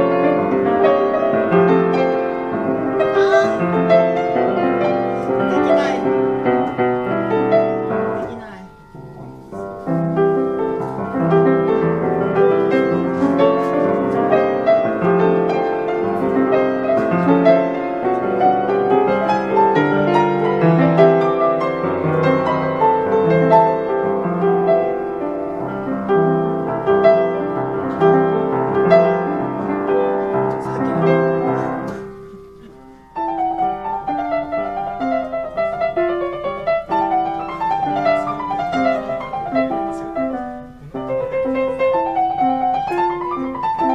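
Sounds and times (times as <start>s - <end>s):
upright piano playing: 0.0s - 43.9s.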